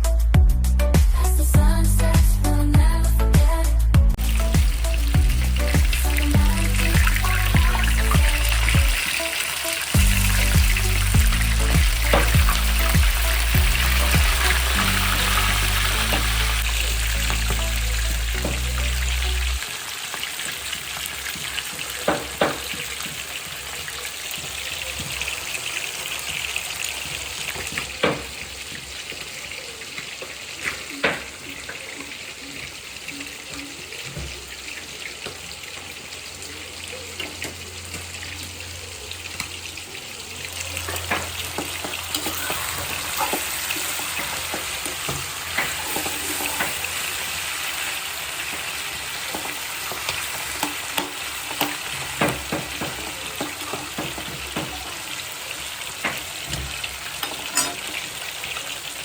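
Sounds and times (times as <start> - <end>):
food sizzling in a pan: 4.2 - 59.0.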